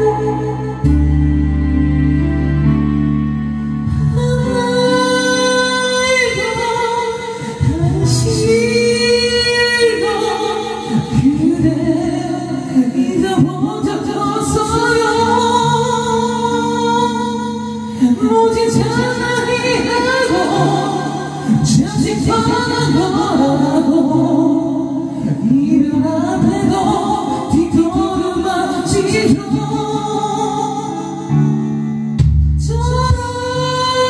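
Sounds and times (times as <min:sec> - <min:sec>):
woman singing with vibrato: 0:00.0 - 0:01.9, 0:03.9 - 0:31.7, 0:32.6 - 0:34.0
instrumental backing track: 0:00.0 - 0:34.0.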